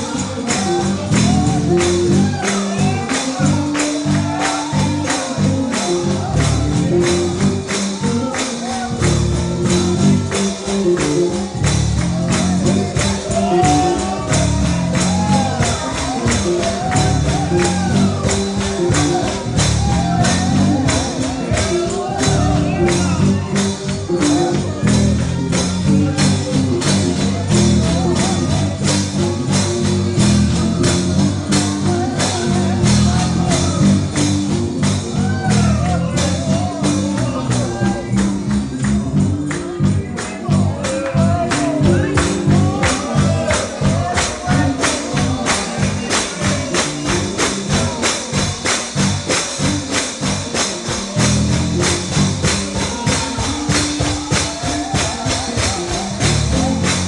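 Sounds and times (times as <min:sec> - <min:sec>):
bass line: 0:00.0 - 0:57.0
tambourine beat: 0:00.0 - 0:57.0
voices singing: 0:00.0 - 0:57.0.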